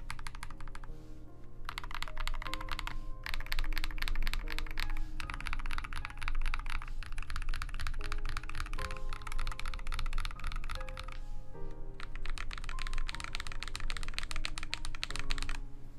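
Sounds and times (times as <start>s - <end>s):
mechanical keyboard typing: 0.0s - 0.9s, 1.6s - 15.6s
music: 0.0s - 15.9s.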